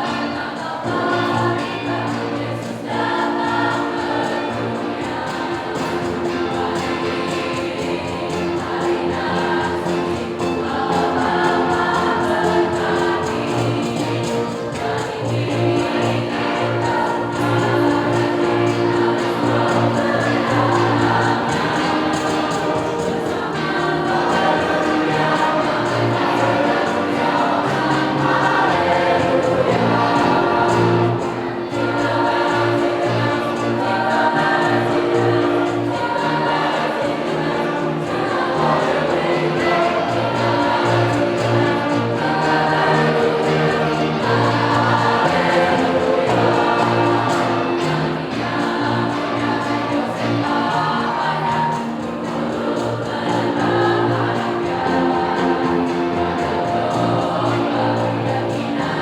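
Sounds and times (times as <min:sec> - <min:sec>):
choir singing in parts: 0:00.0 - 0:59.0.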